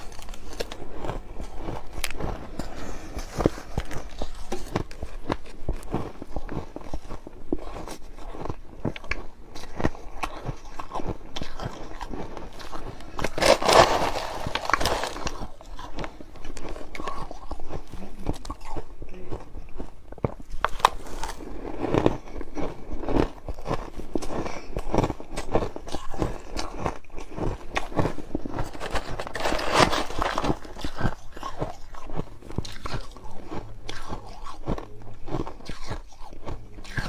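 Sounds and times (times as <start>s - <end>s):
brittle crunching and cracking: 0.0s - 7.0s, 7.6s - 18.9s, 20.2s - 22.3s, 23.1s - 37.0s.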